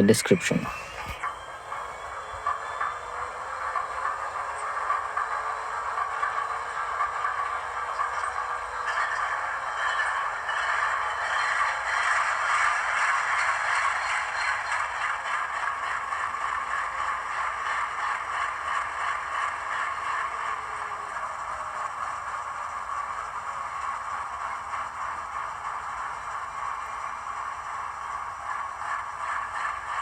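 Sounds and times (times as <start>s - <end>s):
diesel locomotive idling from small speaker: 0.0s - 30.0s.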